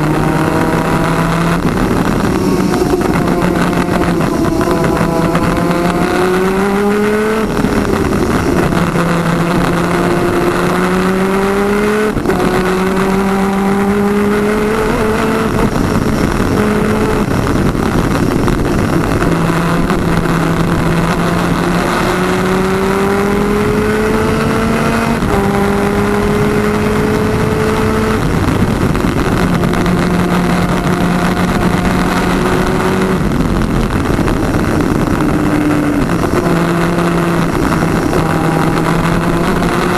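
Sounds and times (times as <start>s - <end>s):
two-stroke kart engine racing: 0.0s - 39.9s.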